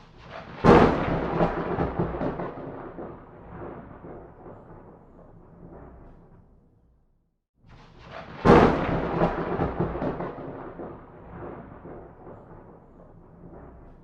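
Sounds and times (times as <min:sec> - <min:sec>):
thunder rumbling and cracking: 0:00.0 - 0:06.9, 0:07.8 - 0:14.0.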